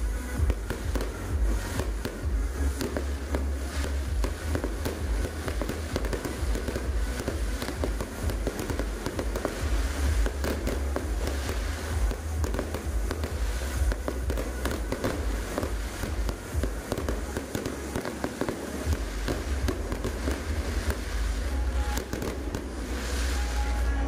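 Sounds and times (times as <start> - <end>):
fireworks bangs and crackling: 0.0 - 24.0
heavy low rumble: 0.0 - 24.0.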